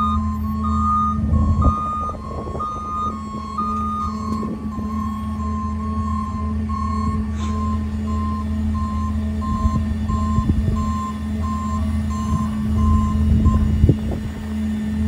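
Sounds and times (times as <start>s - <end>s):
garbage truck engines and hydraulics: 0.0s - 15.0s
truck warning beeper: 0.0s - 15.0s.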